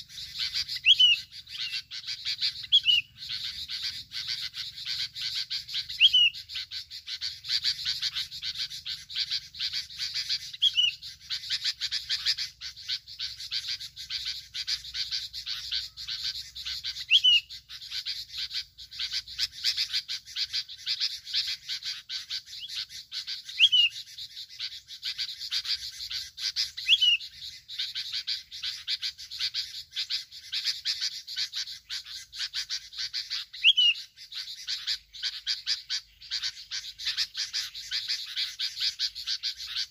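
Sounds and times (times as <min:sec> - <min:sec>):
pulsing chorus of chirps: 0:00.0 - 0:39.9.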